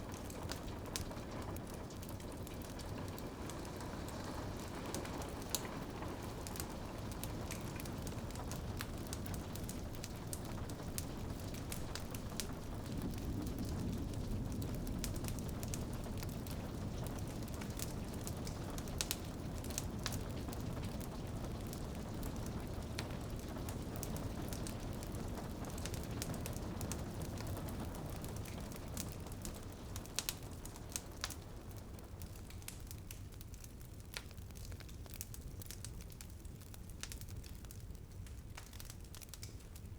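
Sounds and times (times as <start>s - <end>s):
rain on a window: 0.0s - 39.9s
wood fire crackling: 0.0s - 39.9s.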